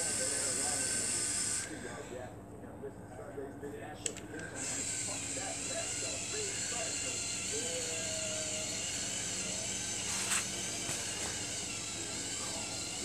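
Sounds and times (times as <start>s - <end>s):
electric motors whirring: 0.0s - 2.3s, 4.3s - 13.0s.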